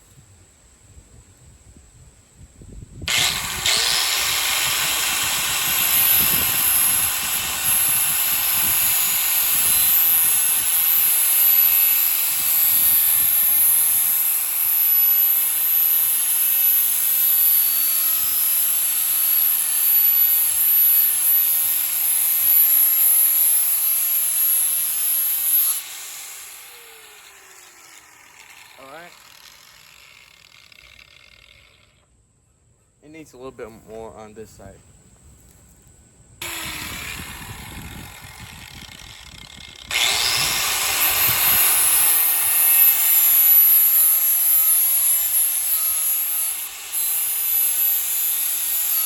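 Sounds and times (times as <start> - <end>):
electric sander grinding metal: 3.1 - 32.0, 36.4 - 49.0.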